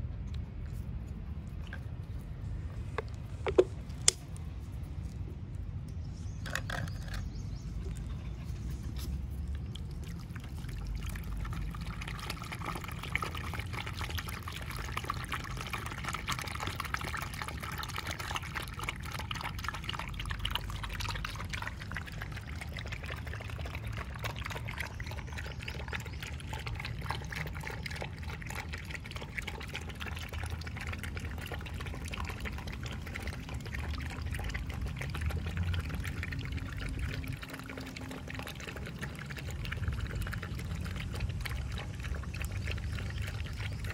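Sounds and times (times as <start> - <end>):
puppies lapping milk: 0.0 - 43.9.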